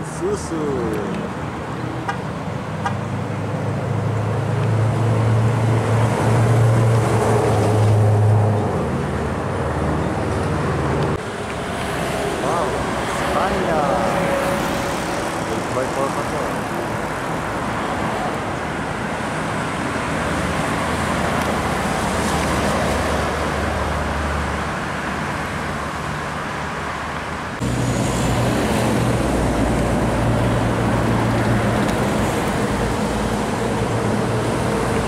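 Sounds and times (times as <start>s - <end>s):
trucks passing: 0.0s - 35.0s
tyre and road noise: 0.0s - 35.0s.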